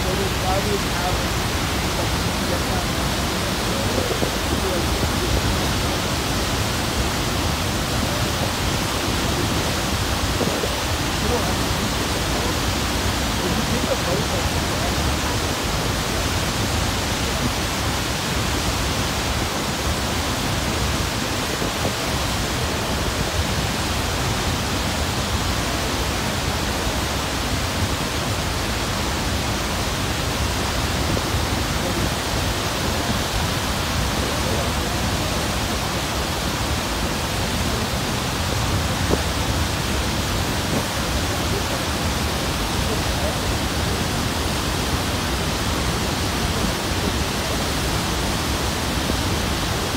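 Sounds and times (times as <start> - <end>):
waterfall pouring: 0.0 - 49.9.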